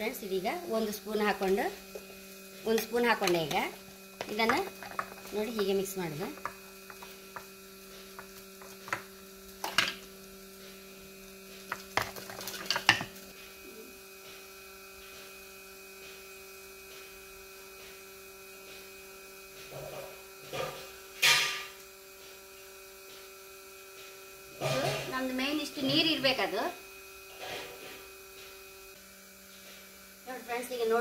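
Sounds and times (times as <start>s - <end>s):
electrical hum: 0.0s - 31.0s.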